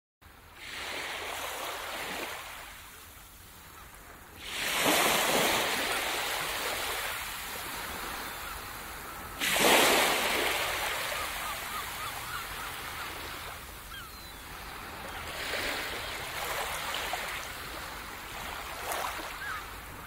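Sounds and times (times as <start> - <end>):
ocean surf on sandy beach: 0.2 - 20.0.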